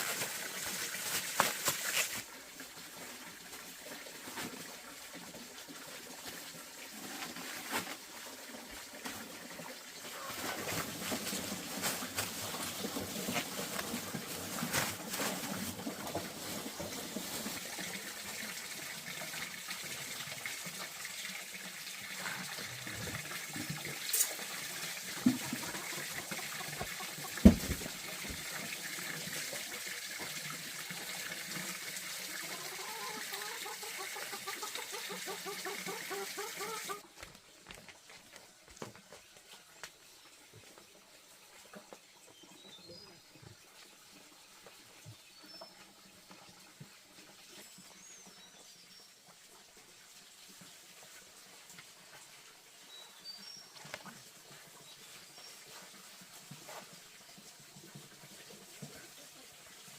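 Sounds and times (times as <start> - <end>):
water running and trickling: 0.0 - 37.1, 37.7 - 59.9.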